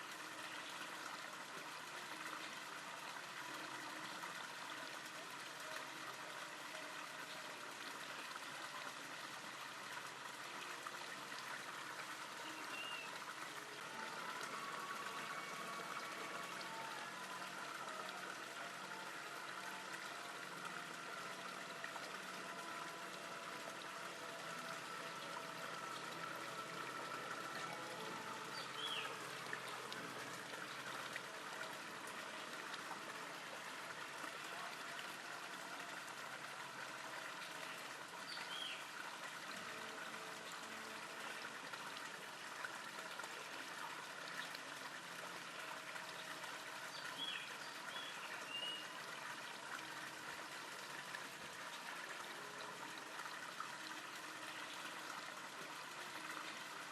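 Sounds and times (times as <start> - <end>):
running water: 0.0 - 56.9.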